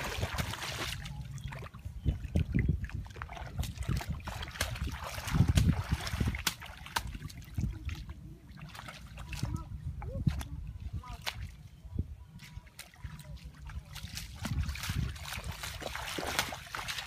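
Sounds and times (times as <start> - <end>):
feet wading in muddy water: 0.0 - 17.0.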